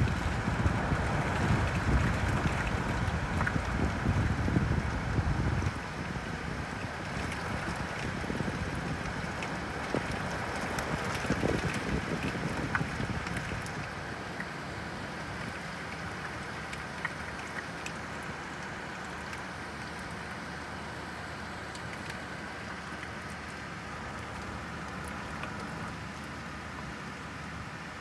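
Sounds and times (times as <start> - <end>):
sharp ticks of raindrops: 0.0 - 28.0
steady rain falling: 0.0 - 28.0.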